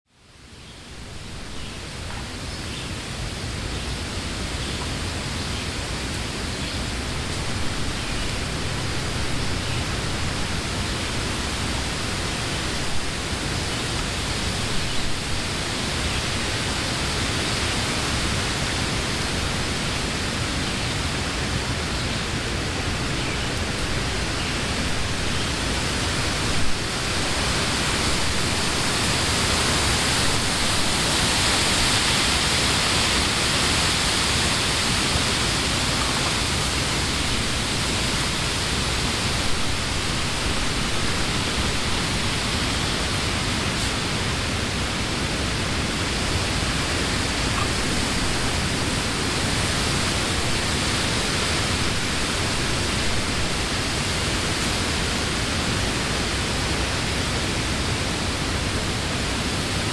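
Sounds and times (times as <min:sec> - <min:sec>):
wind rushing through leaves: 0:00.1 - 0:59.9.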